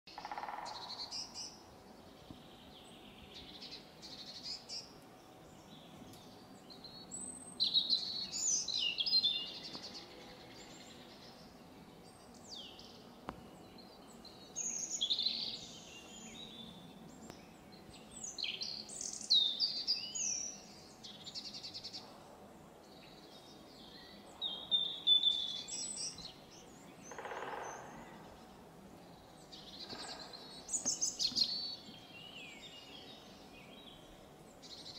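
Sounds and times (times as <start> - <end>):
faint outdoor background: 0.1 - 34.9
songbirds singing and chirping: 0.1 - 34.9.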